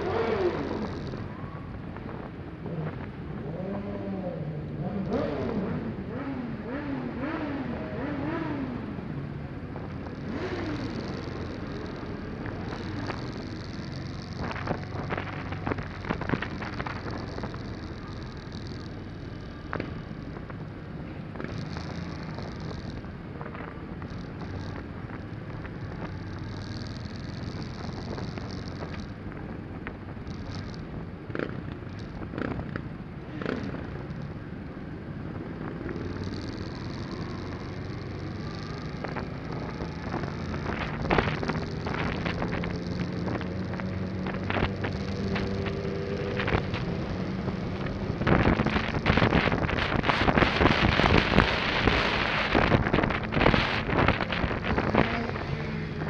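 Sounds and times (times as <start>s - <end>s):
motorcycle engines droning: 0.0s - 56.0s.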